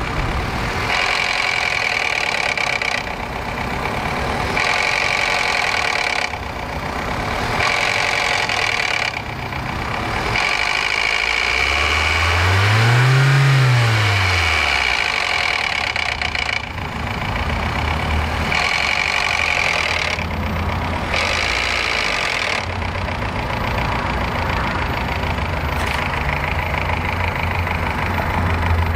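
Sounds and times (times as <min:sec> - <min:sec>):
car engine idling with knock: 0:00.0 - 0:28.9
car engine revving: 0:00.0 - 0:28.9.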